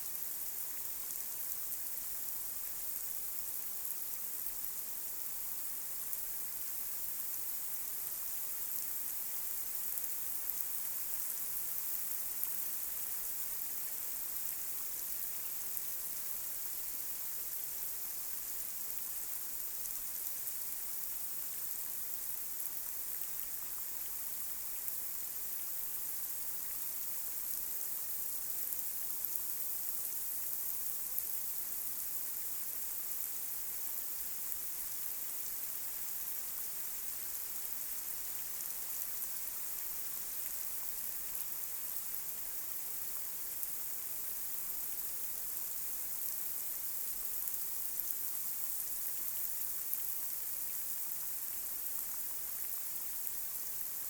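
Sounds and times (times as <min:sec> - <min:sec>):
light rain on a street: 0:00.0 - 0:54.0.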